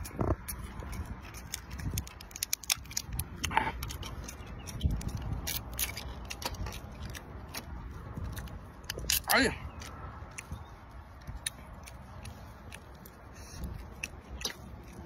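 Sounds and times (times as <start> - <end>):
crab shell cracking: 0.0 - 15.0.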